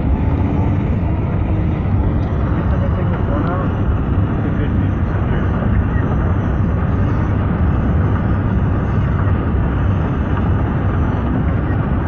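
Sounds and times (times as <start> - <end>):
car cabin road and wind noise: 0.0 - 12.0.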